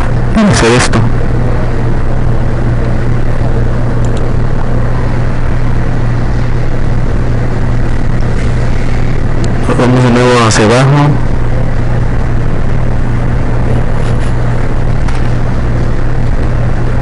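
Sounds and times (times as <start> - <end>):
loud droning hum: 0.0 - 17.0
rushing noise: 0.0 - 17.0.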